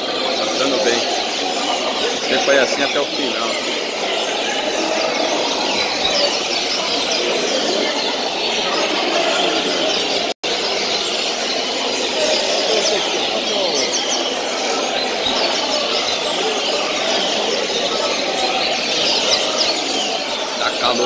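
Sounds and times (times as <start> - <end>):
many birds chirping and trilling: 0.0 - 21.0.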